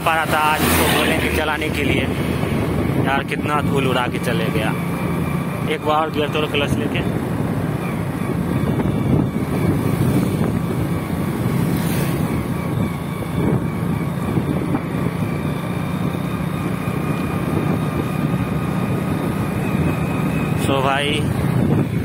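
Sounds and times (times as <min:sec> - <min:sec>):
motorcycle engine drone: 0:00.0 - 0:22.0
road and wind noise: 0:00.0 - 0:22.0.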